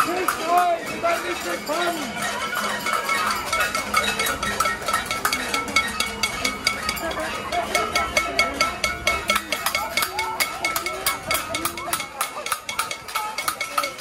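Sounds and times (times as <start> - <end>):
crowd voices: 0.0 - 14.0
pots and pans banging: 0.0 - 14.0.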